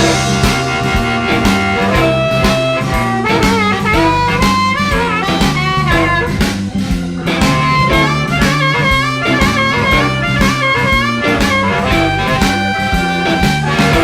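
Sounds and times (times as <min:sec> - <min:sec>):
bending lead guitar line: 0:00.0 - 0:14.0
blues band playing: 0:00.0 - 0:14.0.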